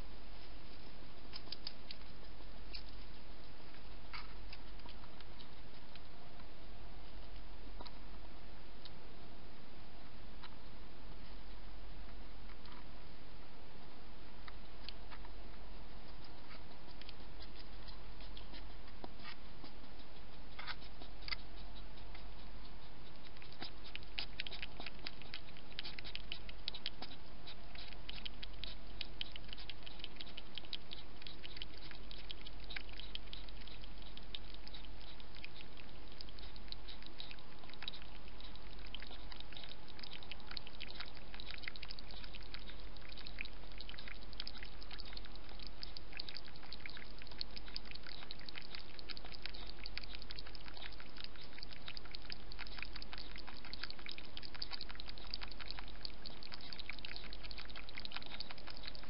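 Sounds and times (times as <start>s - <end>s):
hedgehog eating and lapping: 0.0s - 59.0s.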